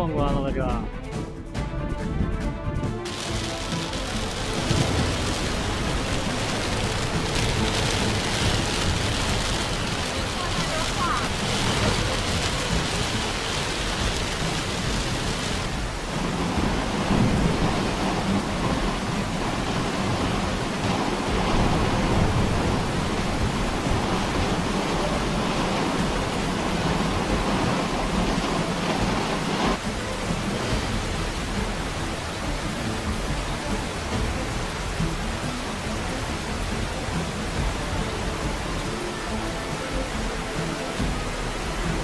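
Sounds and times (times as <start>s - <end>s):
heavy rain on car roof: 3.0s - 42.0s.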